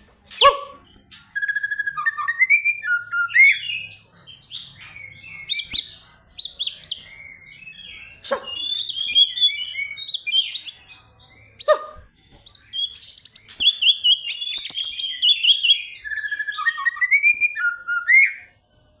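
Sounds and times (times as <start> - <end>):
songbird singing: 0.1 - 19.0.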